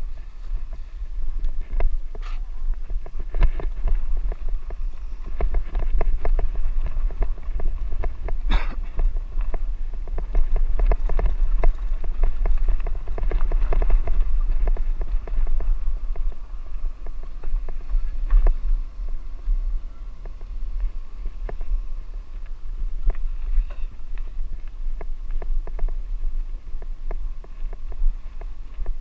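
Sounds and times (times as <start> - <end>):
bike rattling over rough track: 0.0 - 29.0
wind buffeting microphone: 0.0 - 29.0.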